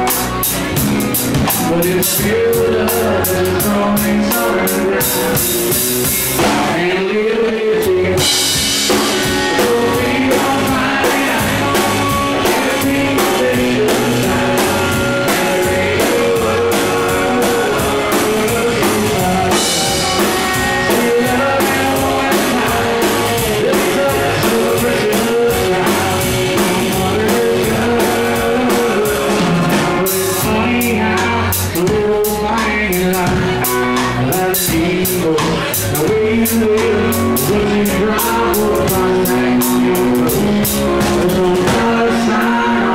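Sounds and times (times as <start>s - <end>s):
country-rock band playing: 0.0s - 42.9s
lead vocal singing: 0.0s - 42.9s.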